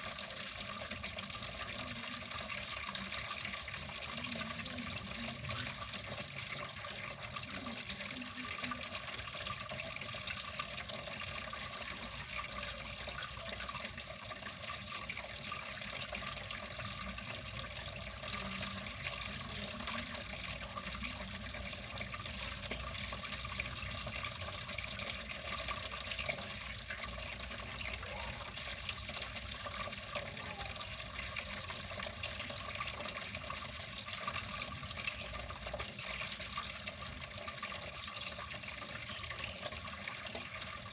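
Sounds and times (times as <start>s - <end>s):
water flowing: 0.0s - 40.9s.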